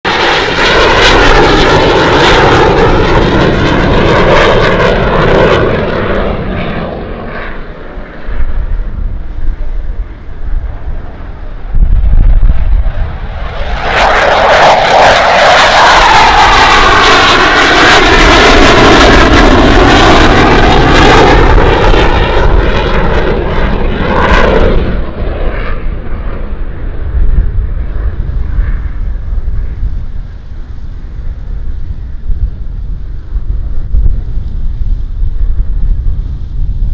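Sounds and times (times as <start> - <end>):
fighter jet noise: 0.0 - 36.9.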